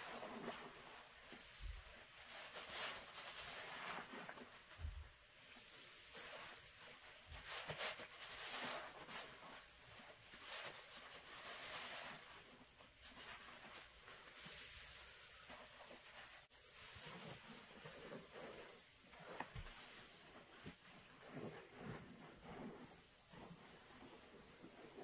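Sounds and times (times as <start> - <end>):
sponge squishing soap foam: 0.0 - 25.0.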